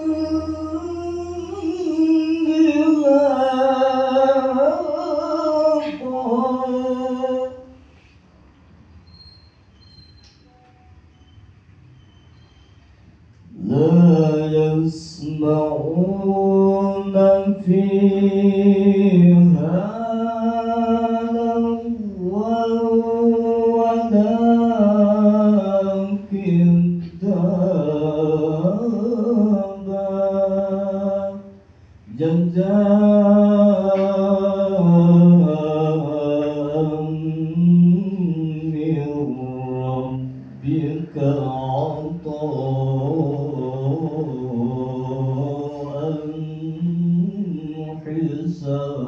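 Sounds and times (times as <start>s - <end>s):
man chanting recitation: 0.0s - 8.0s, 13.4s - 49.0s.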